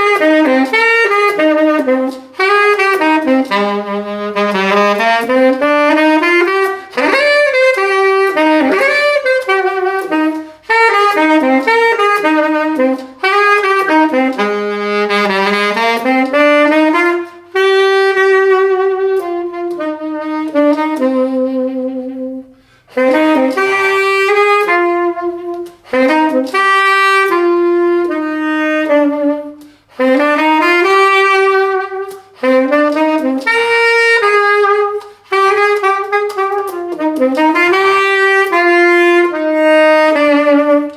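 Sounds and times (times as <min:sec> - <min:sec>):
solo saxophone melody: 0:00.0 - 0:40.9.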